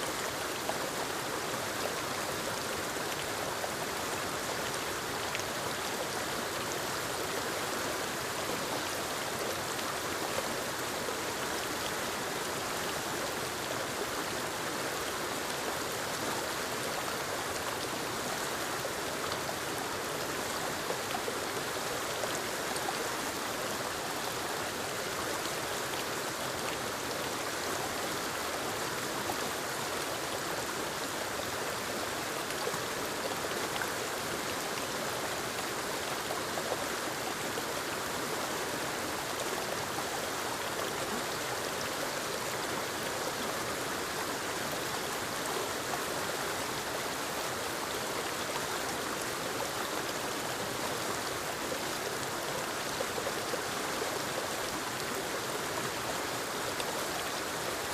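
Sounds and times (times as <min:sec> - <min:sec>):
waterfall and creek rushing: 0:00.0 - 0:57.9.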